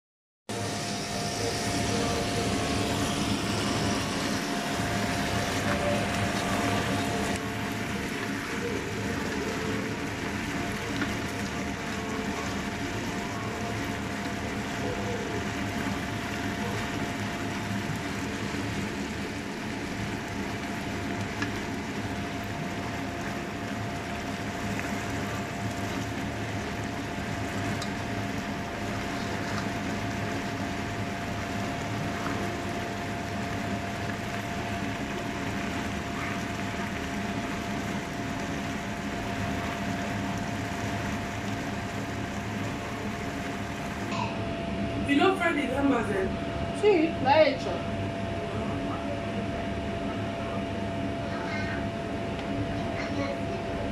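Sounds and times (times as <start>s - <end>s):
steady tonal hum: 0.5s - 53.9s.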